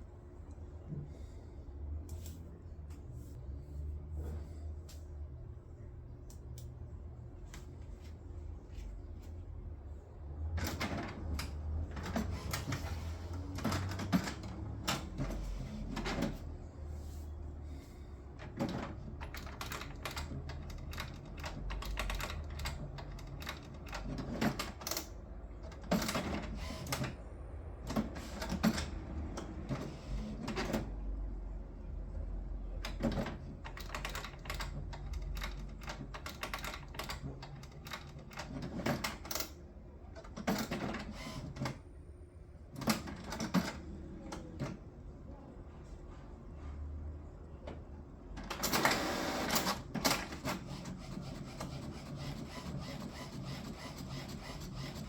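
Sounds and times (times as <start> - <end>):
printer low hum: 6.8 - 55.0.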